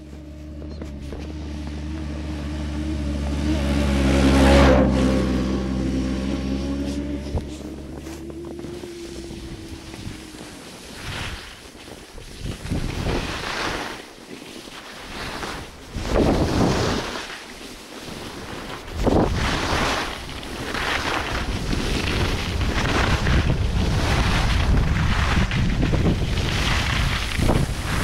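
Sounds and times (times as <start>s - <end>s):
skis scraping over packed snow: 0.0s - 2.9s, 4.0s - 28.0s
wind buffeting microphone: 0.6s - 13.7s, 15.6s - 17.1s, 18.4s - 28.0s.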